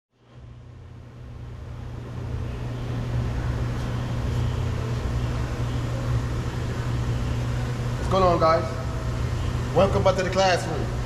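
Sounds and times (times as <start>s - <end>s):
low mechanical hum: 0.1s - 11.0s.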